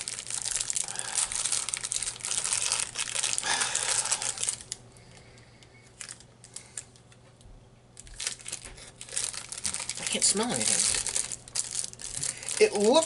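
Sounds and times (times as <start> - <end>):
plastic wrapper crinkling: 0.0 - 7.1, 8.0 - 13.0.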